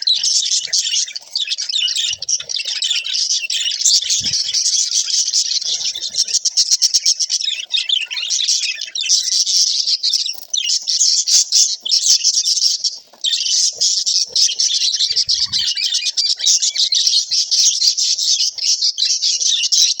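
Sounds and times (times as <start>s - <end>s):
budgerigars chattering and warbling: 0.0s - 20.0s.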